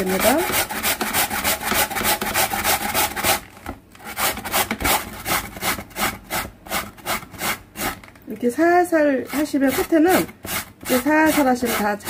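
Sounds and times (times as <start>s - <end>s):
potato grated on plastic grater: 0.0s - 12.0s.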